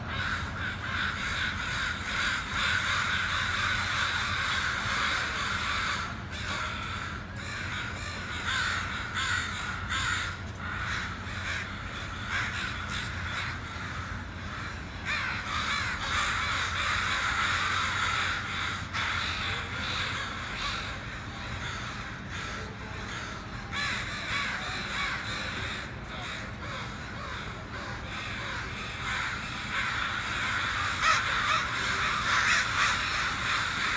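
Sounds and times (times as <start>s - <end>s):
crows cawing: 0.0s - 33.9s.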